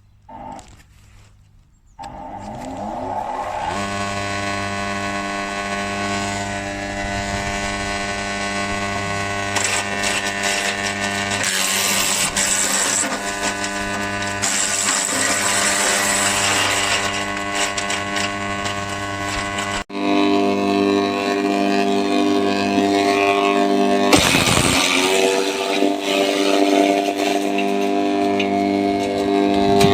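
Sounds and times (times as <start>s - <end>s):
branches crackling and grinding: 0.0s - 19.9s, 23.0s - 29.9s
wood chipper motor humming: 0.0s - 29.9s.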